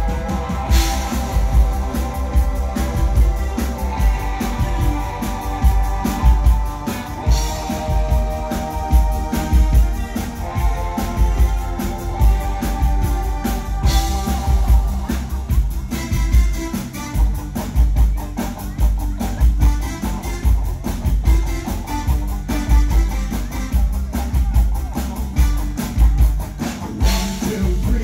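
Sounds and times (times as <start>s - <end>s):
live synth-pop band: 0.0s - 28.0s.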